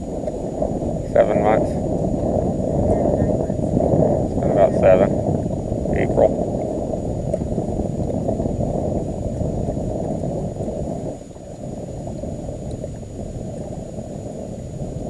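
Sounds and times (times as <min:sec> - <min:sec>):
water lapping at boat: 0:00.0 - 0:15.0
wind buffeting microphone: 0:00.0 - 0:15.0.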